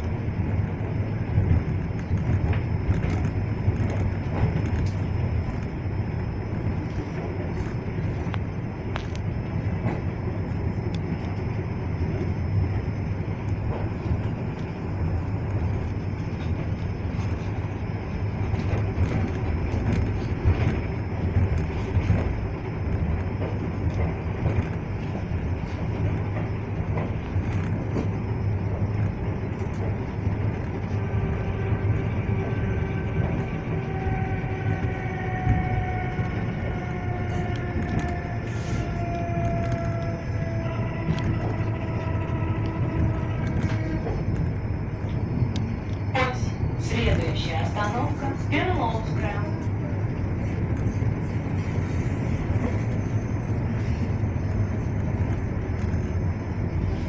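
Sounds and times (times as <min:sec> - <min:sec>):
falling whine: 0:00.0 - 0:57.0
train rumble inside carriage: 0:00.0 - 0:57.0
wheels clicking and rattling on track: 0:00.0 - 0:57.0.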